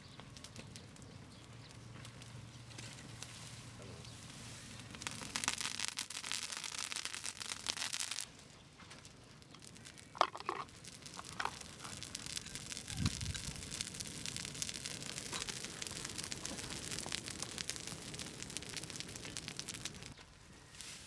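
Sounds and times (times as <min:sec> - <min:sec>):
wood fire crackling and popping: 0:00.0 - 0:20.4.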